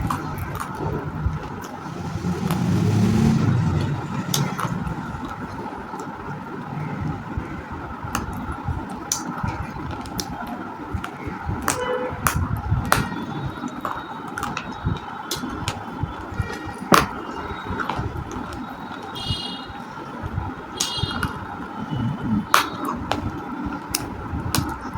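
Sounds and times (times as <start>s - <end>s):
steady background noise: 0.0s - 24.9s.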